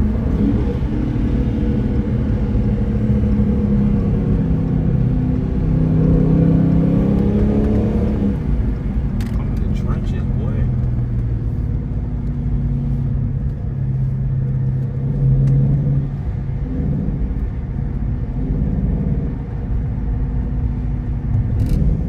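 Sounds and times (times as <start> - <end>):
car engine droning: 0.0 - 22.0
low road rumble: 0.0 - 22.0.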